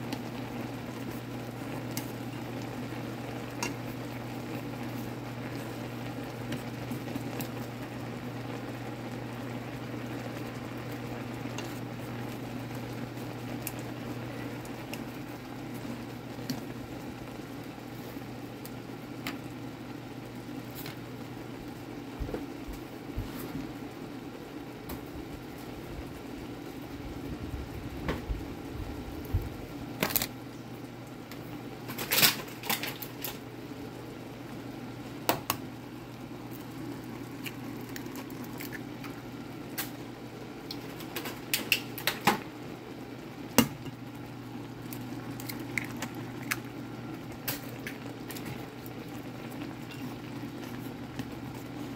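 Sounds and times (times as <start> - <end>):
broth bubbling in a skillet: 0.0 - 51.9.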